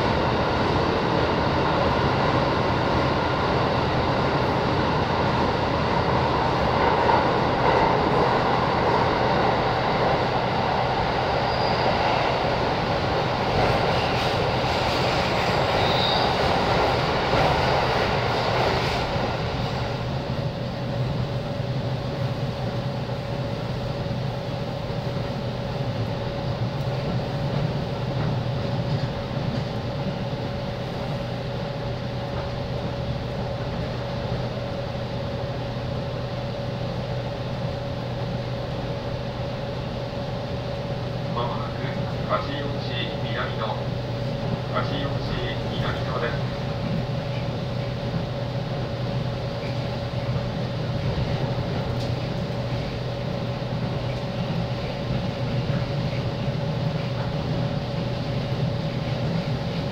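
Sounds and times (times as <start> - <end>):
train hum: 0.0 - 59.9
train wheels rumbling on rail: 0.0 - 59.9.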